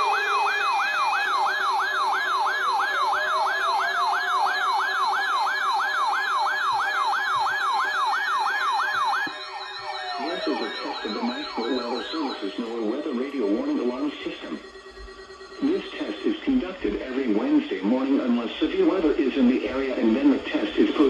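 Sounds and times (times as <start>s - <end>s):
weather radio alert siren: 0.0s - 21.0s.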